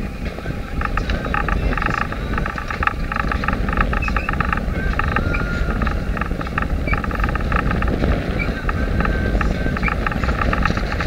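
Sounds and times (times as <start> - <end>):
fast crackling rattle: 0.0 - 11.0
water rushing along hull: 0.0 - 11.0
wind buffeting microphone: 0.0 - 11.0.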